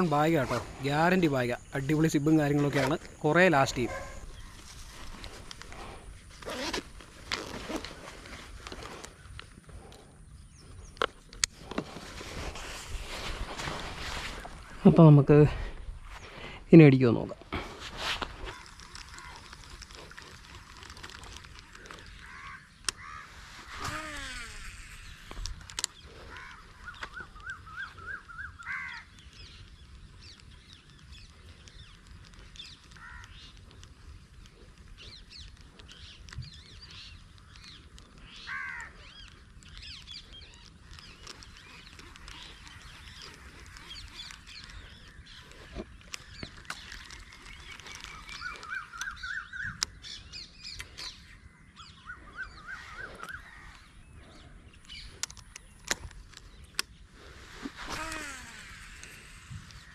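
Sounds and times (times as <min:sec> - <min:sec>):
birds chirping high: 0:00.0 - 0:59.9.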